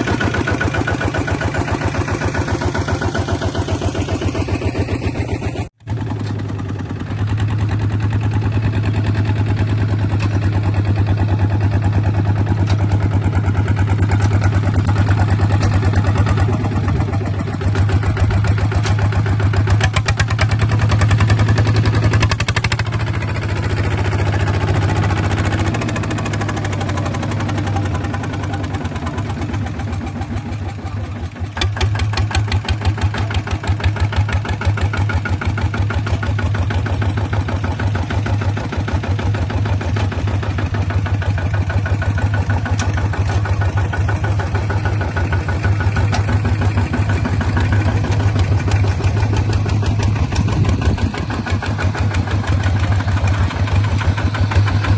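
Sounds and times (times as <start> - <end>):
bulldozer engine running: 0.0 - 54.9.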